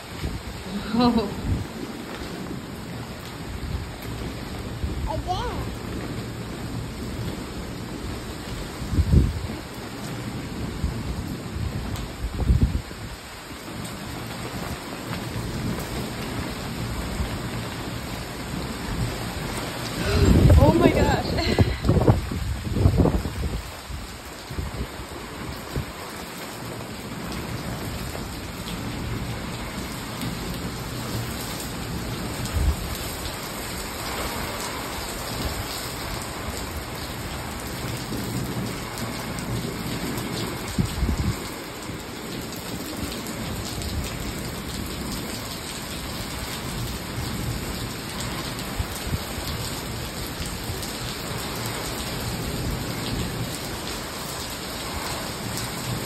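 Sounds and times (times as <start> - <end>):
gusting wind: 0.0 - 56.0
heavy rain on stone and water: 0.0 - 56.0.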